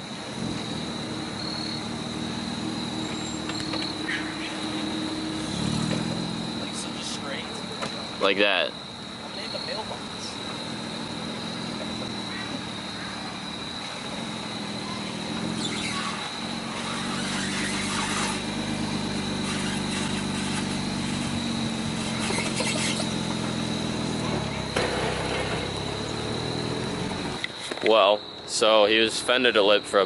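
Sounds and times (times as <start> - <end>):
car engine running at low revs: 0.0 - 27.6.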